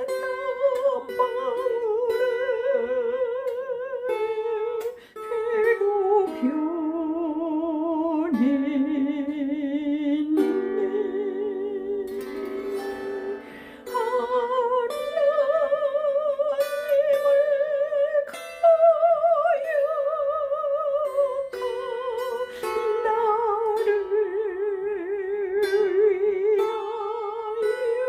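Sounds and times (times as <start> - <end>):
person singing with vibrato: 0.0 - 28.0
plucked harp strings: 0.0 - 28.0.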